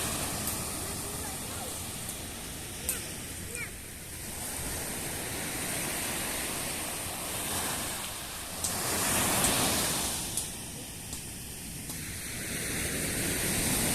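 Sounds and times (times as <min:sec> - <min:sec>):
turboprop engine and propeller noise: 0:00.0 - 0:13.9.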